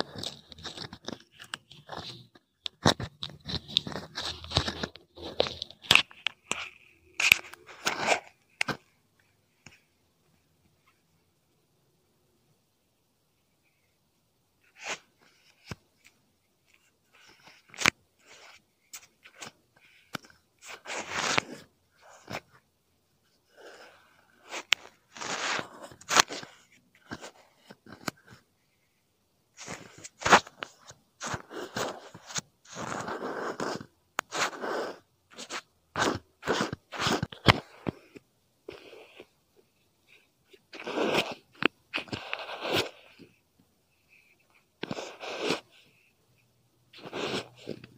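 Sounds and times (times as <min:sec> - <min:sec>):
crunchy scratching and rubbing: 0:00.0 - 0:09.0, 0:14.6 - 0:22.6, 0:23.5 - 0:28.4, 0:29.6 - 0:46.1, 0:46.9 - 0:47.9.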